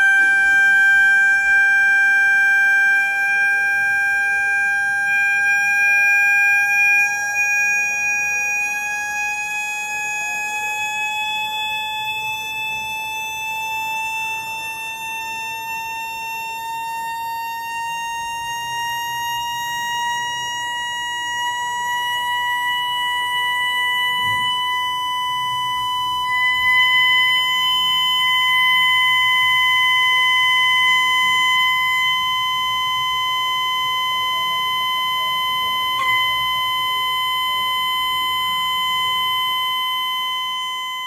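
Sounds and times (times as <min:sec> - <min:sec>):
steady pure tone from loudspeaker: 0:00.0 - 0:41.0.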